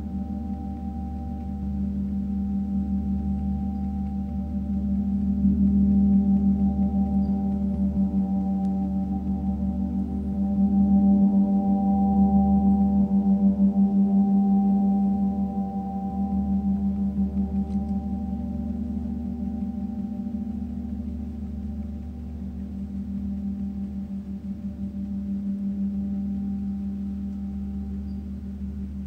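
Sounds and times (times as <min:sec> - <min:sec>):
gong sustained low tone: 0:00.0 - 0:29.0.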